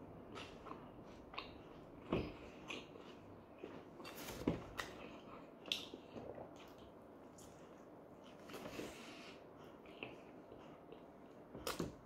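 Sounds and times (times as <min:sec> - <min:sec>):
man chewing and tearing bread: 0:00.0 - 0:12.0.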